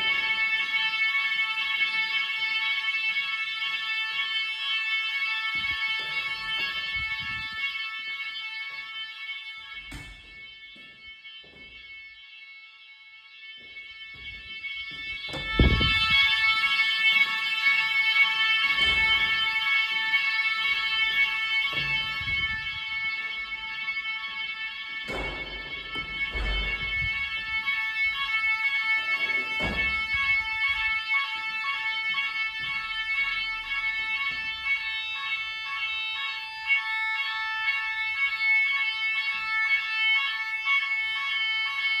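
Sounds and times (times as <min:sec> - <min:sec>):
multi-tone fire alarm: 0:00.0 - 0:42.0.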